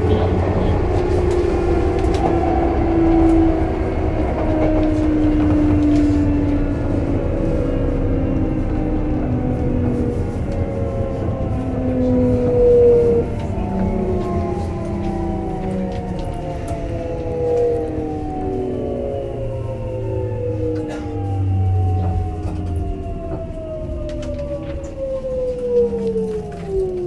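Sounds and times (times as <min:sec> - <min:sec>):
train running gear rumble: 0:00.0 - 0:27.0.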